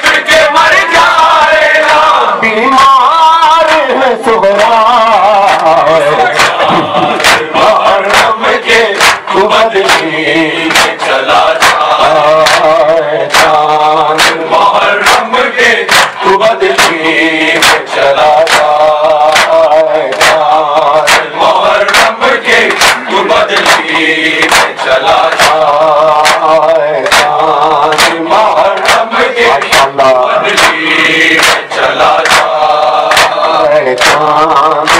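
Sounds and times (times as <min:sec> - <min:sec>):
men chanting in unison: 0:00.0 - 0:34.9.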